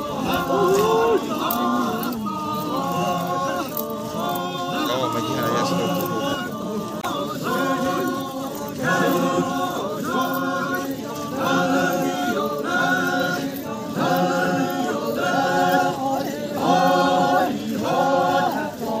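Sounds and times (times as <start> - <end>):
men's chorus chanting in unison: 0.0 - 19.0.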